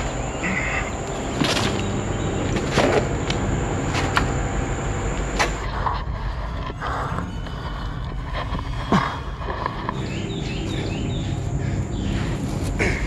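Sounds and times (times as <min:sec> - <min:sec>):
low rumble of wind: 0:00.0 - 0:13.0.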